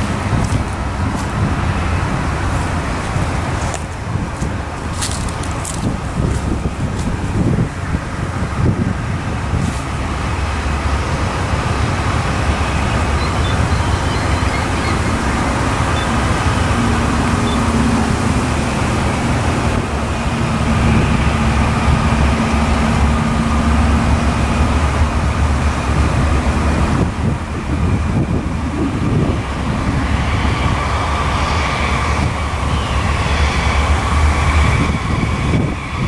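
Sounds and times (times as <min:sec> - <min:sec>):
distant freight train rumble: 0:00.0 - 0:36.0
road traffic: 0:00.0 - 0:36.0
wind on microphone: 0:00.0 - 0:36.0.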